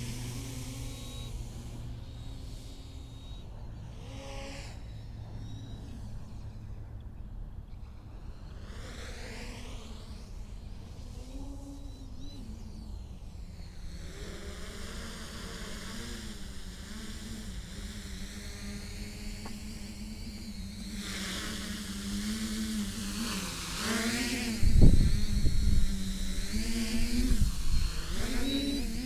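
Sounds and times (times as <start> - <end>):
drone propellers whirring: 0.0 - 29.0.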